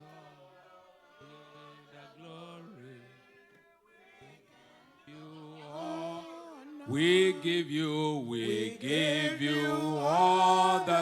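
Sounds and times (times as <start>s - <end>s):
faint worship singing: 0.0s - 11.0s.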